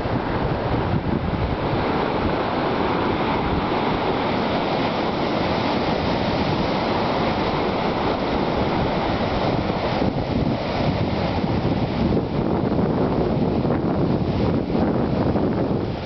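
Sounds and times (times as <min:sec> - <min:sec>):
ocean surf breaking on rocks: 0:00.0 - 0:16.0
wind buffeting microphone: 0:00.0 - 0:16.0.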